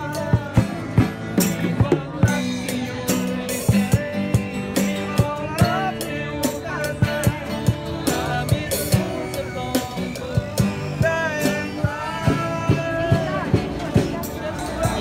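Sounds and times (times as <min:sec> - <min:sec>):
drums and cymbal beat: 0:00.0 - 0:15.0
guitar: 0:00.0 - 0:15.0.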